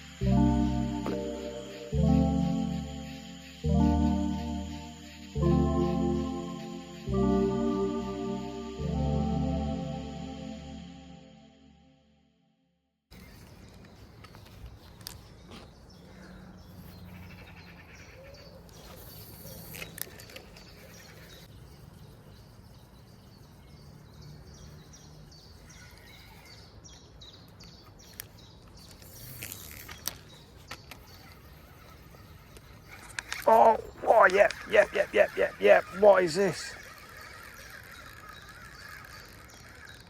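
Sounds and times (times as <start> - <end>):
small birds chirping: 0.0 - 8.8, 13.1 - 40.0.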